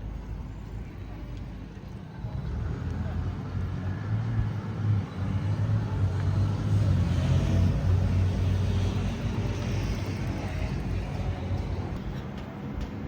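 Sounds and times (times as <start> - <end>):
tyre and street noise: 0.0 - 13.0.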